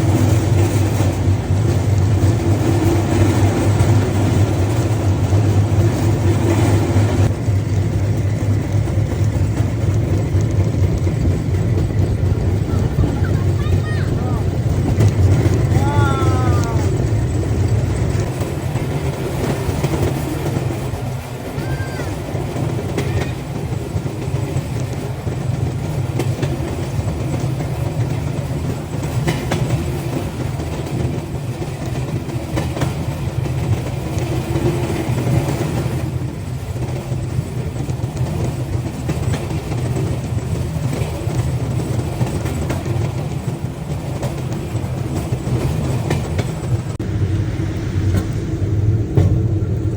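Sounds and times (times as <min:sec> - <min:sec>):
steel wheels rolling on rails: 0:00.0 - 0:49.9.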